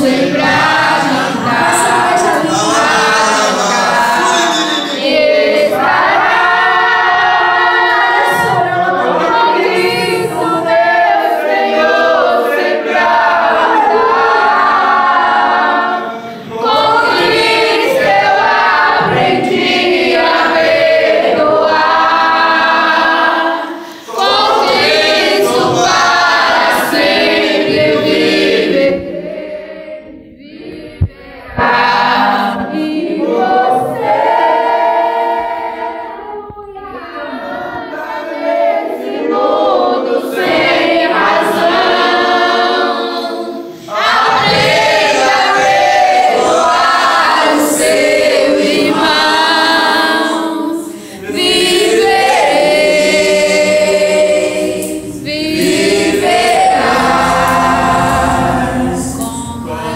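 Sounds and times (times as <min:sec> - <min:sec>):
voices singing unaccompanied: 0:00.0 - 0:59.9.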